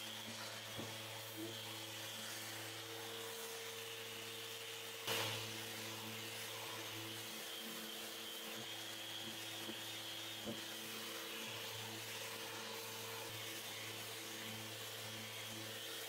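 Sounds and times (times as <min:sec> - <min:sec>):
sander motor hum: 0:00.0 - 0:16.0.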